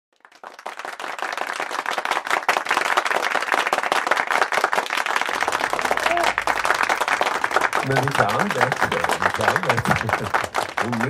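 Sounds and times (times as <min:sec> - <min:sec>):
audience applauding: 0:00.1 - 0:11.0.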